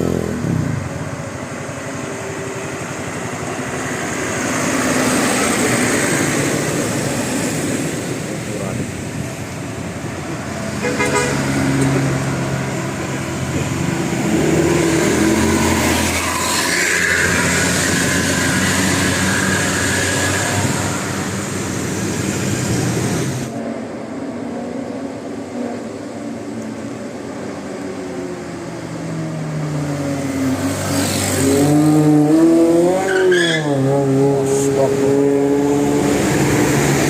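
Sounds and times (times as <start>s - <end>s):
steady engine hum: 0.0s - 33.0s
buses passing: 0.0s - 37.0s.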